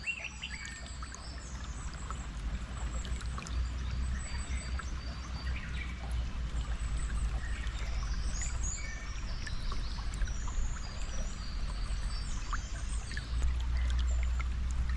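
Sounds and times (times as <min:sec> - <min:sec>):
stream water flowing: 0:00.0 - 0:14.9.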